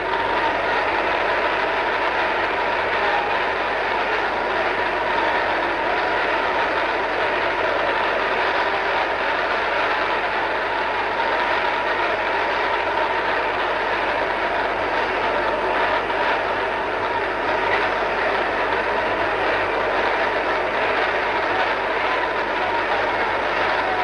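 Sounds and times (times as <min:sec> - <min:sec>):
crowd praying aloud: 0:00.0 - 0:24.0.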